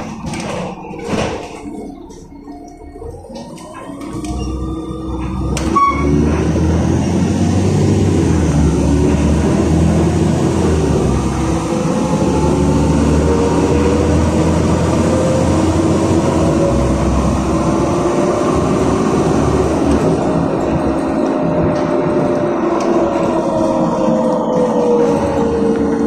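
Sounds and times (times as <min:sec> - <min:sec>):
bus engine running: 0:00.0 - 0:26.0
road and tyre noise: 0:00.0 - 0:26.0.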